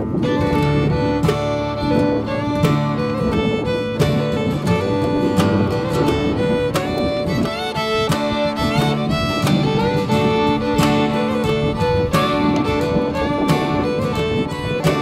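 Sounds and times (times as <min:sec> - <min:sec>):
fiddle playing sliding notes: 0:00.0 - 0:15.0
plucked guitar: 0:00.0 - 0:15.0.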